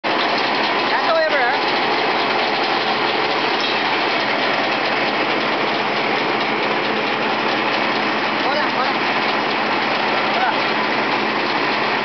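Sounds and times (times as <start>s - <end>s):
diesel-driven sheller running: 0.0s - 12.0s.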